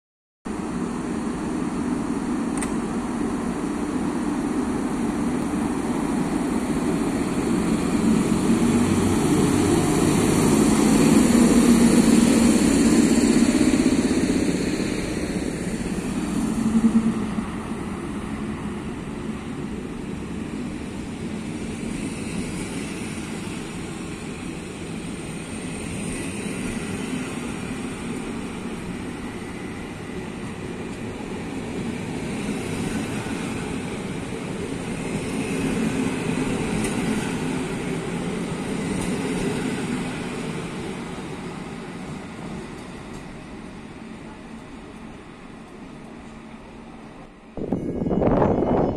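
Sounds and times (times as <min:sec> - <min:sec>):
train wheels rolling on rails: 0:00.6 - 0:48.9.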